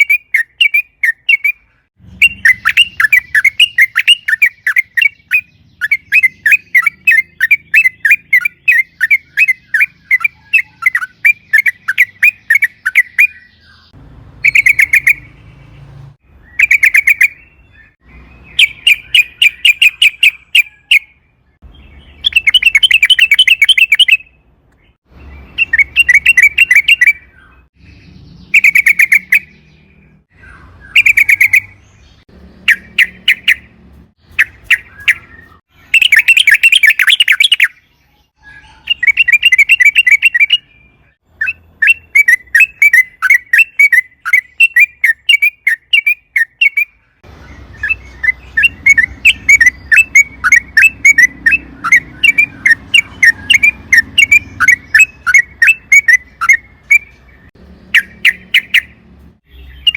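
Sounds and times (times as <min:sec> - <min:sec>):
bird chattering notes: 0:00.0 - 0:15.4, 0:16.6 - 0:17.5, 0:18.5 - 0:21.1, 0:22.0 - 0:24.3, 0:25.5 - 0:47.0, 0:47.6 - 0:59.9
bird singing bubbling phrases: 0:00.0 - 0:59.9.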